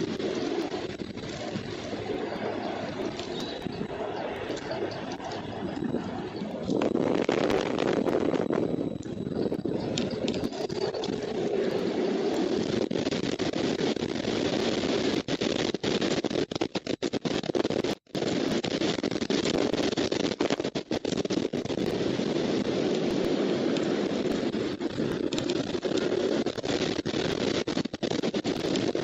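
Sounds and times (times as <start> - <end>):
steady rushing noise: 0.0 - 29.0.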